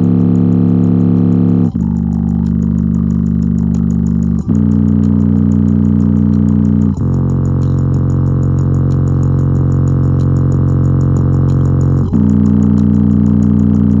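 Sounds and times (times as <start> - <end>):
loudspeaker bass tone: 0.0 - 14.0.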